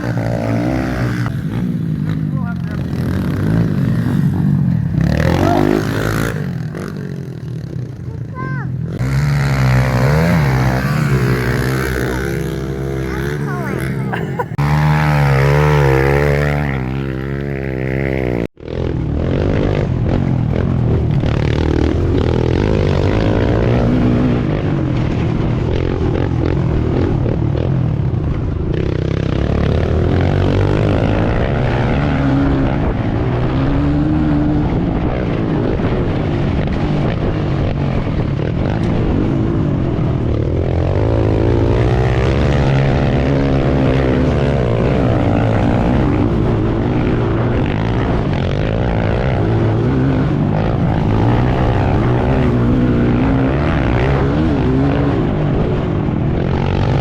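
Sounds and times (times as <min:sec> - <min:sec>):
pit bike engine revving: 0:00.0 - 0:27.8, 0:28.6 - 0:57.0.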